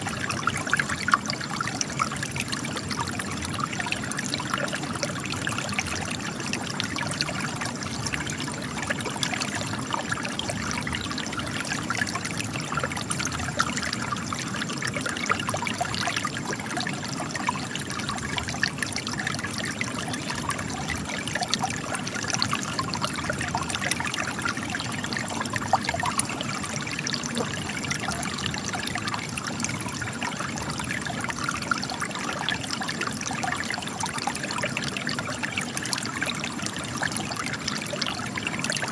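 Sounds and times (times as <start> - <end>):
spring water trickling and splashing: 0.0 - 38.9.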